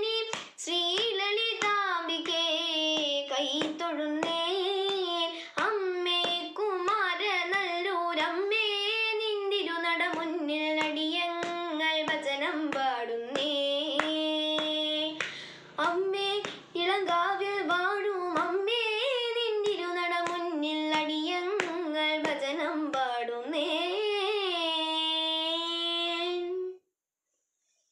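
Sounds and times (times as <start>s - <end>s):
girl singing unaccompanied: 0.0s - 26.8s.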